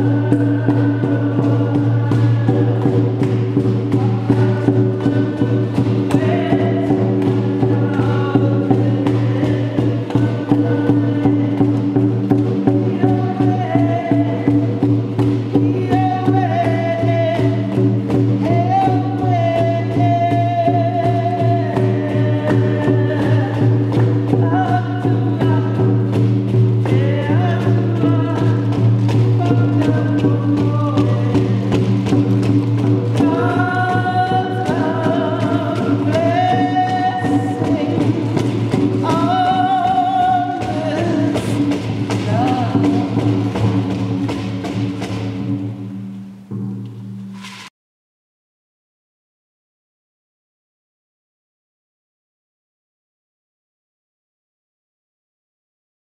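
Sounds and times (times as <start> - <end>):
voices singing chant-like melody: 0.0 - 45.2
frame drum beaten fast: 0.0 - 47.7.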